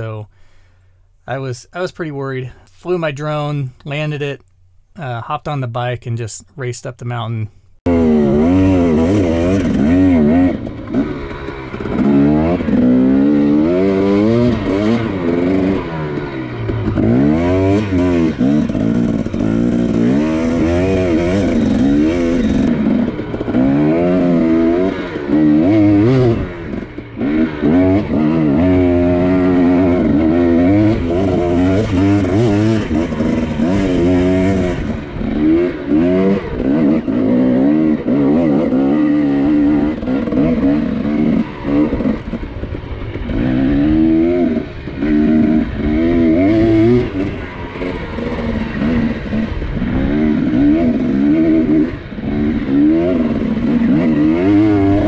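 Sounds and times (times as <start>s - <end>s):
dirt bike engine revving: 7.8s - 55.0s.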